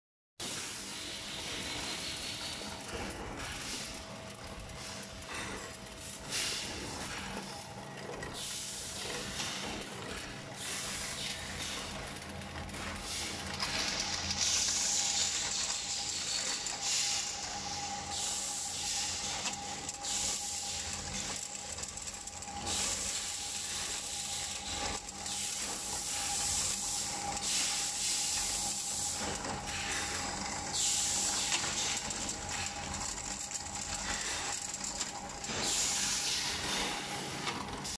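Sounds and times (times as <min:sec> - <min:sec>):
hiss: 0:00.4 - 0:04.0, 0:06.2 - 0:07.2, 0:08.4 - 0:09.8, 0:10.6 - 0:11.9, 0:12.9 - 0:21.8, 0:22.5 - 0:37.3
machine hum: 0:00.4 - 0:37.9.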